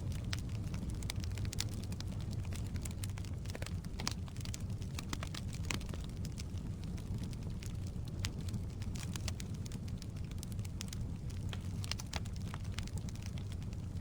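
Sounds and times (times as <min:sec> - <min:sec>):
wood fire burning and crackling: 0:00.0 - 0:14.0.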